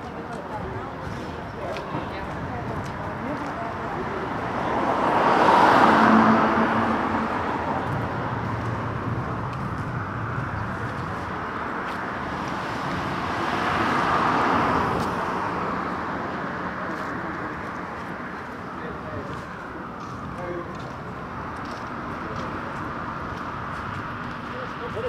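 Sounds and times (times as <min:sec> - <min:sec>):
cars passing by: 0:00.0 - 0:25.0
steady traffic hum: 0:00.0 - 0:25.0.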